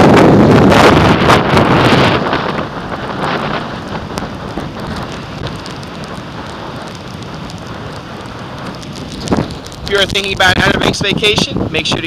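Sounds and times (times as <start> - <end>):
raindrops ticking on microphone: 0.0 - 12.0
surf: 0.0 - 12.0
wind-driven rain: 0.0 - 12.0.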